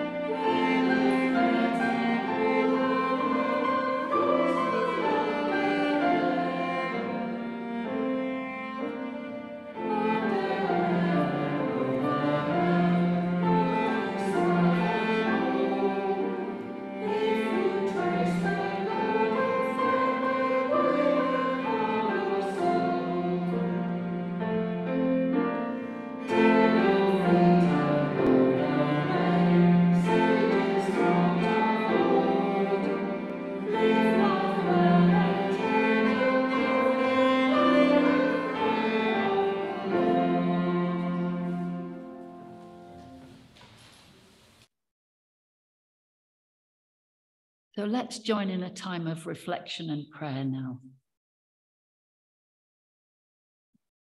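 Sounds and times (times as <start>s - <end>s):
bowed string hymn melody: 0.0s - 44.1s.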